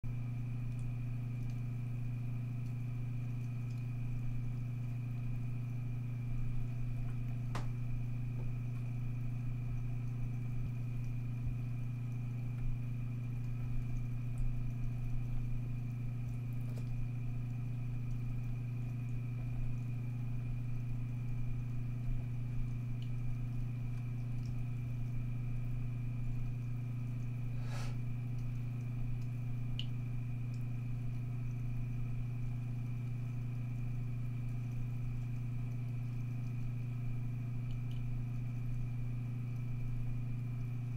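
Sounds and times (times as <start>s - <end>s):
low hum: 0.1s - 40.9s.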